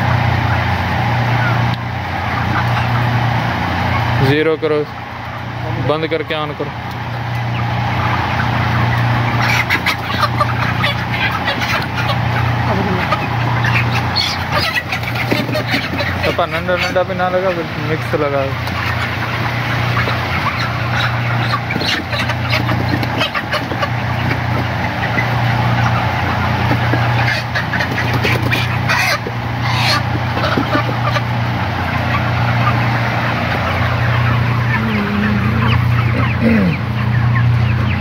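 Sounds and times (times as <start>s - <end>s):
chickens clucking and cheeping: 0.0s - 38.0s.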